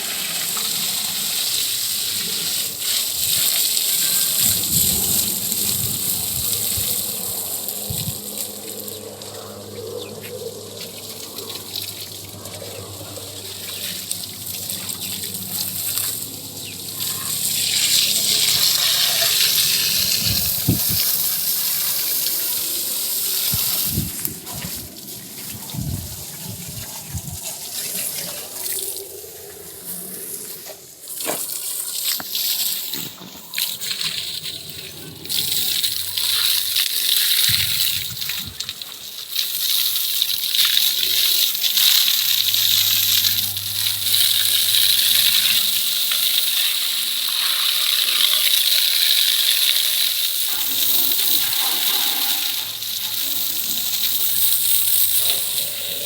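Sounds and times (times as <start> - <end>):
water jet spraying: 0.0 - 9.3, 10.8 - 56.0.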